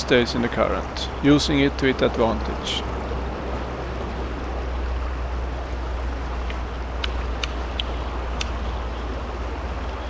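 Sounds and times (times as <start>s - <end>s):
river current rushing: 0.0s - 10.0s
low rumble: 0.7s - 9.0s.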